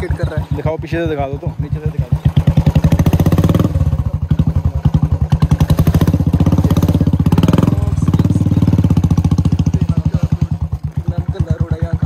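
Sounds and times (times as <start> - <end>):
motorcycle engine thumping: 0.0 - 12.0.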